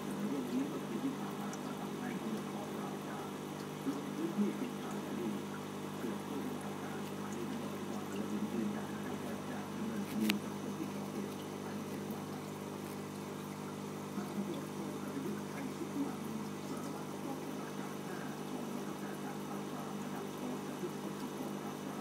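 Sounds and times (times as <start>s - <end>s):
aquarium pump hum: 0.0s - 22.0s
water gurgling: 0.0s - 22.0s.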